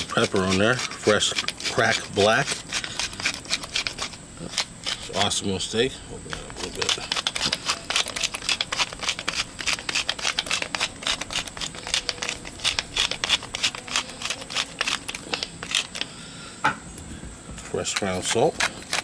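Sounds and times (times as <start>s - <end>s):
pepper mill grinding: 0.0s - 5.5s, 6.2s - 16.1s, 17.8s - 19.0s.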